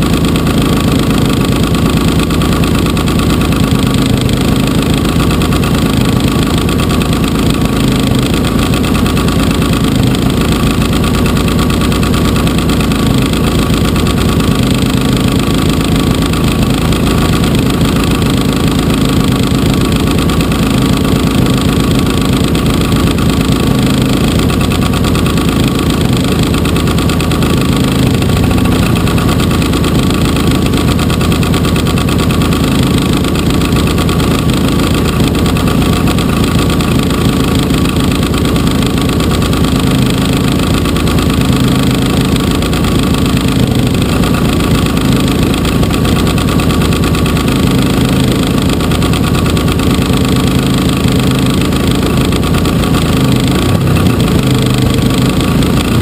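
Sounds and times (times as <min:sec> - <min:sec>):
model plane engine idling: 0:00.0 - 0:56.0.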